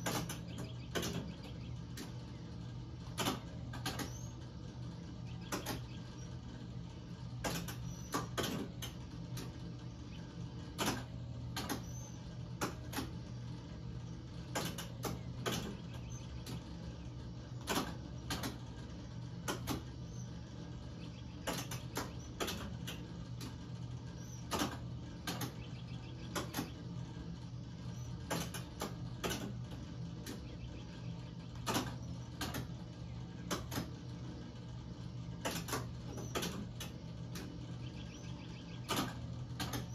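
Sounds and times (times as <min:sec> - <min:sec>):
relays clicking and clacking: 0:00.0 - 0:39.9
steady low hum: 0:00.0 - 0:39.9.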